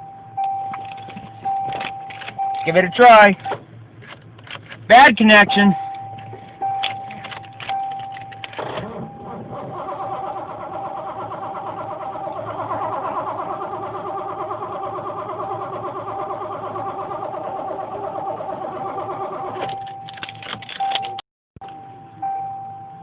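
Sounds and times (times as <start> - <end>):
car engine cranking: 0.3 - 21.2.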